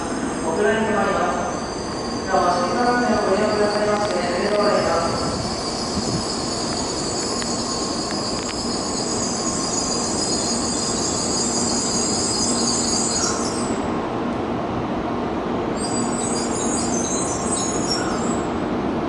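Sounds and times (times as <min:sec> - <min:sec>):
train rumbling: 0:00.0 - 0:19.0
high-pitched brake squeal: 0:00.1 - 0:13.8, 0:15.8 - 0:18.5.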